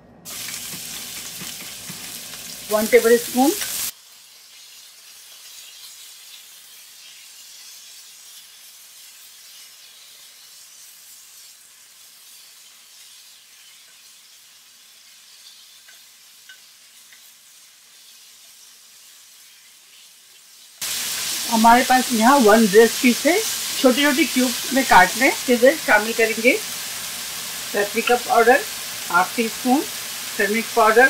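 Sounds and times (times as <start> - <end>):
chicken sizzling in oil: 0.2 - 31.0.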